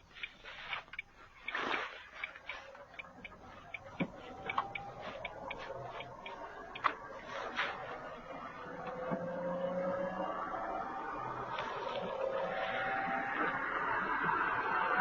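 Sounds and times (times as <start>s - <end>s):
turn signal clicking: 0.0s - 9.5s, 10.4s - 14.5s
faint vehicle running noise: 0.0s - 15.0s.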